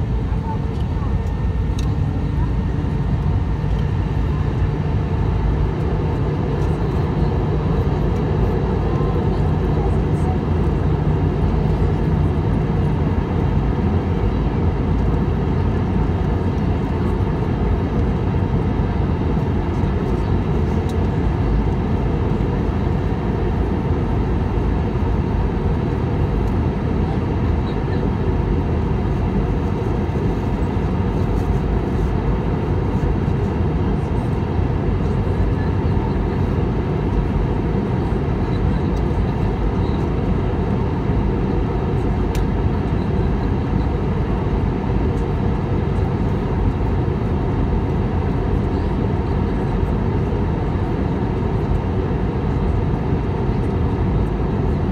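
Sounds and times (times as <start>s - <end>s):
jet engines in cabin: 0.0s - 54.9s.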